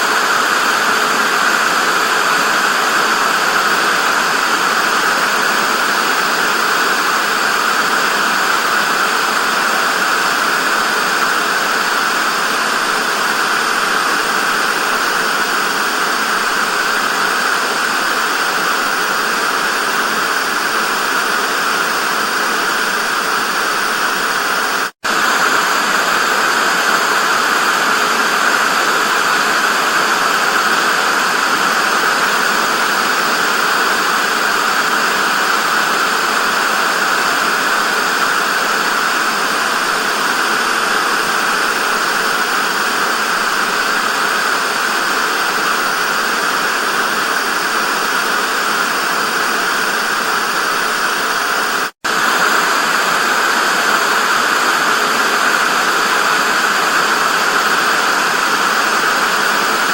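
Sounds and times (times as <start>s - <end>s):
television static hiss: 0.0s - 59.9s.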